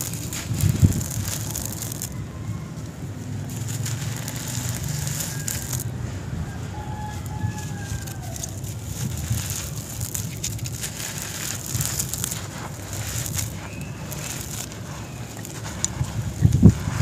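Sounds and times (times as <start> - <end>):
dry cement crunching and crackling: 0.0 - 17.0.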